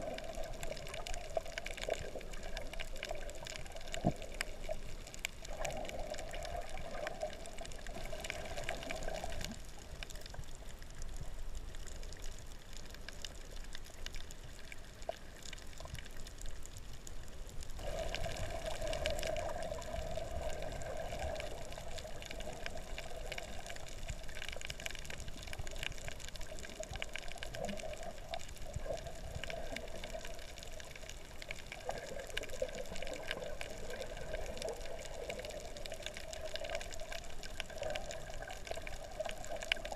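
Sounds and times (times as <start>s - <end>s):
faint ticks: 0.0s - 39.9s
underwater watery rush: 0.0s - 39.9s.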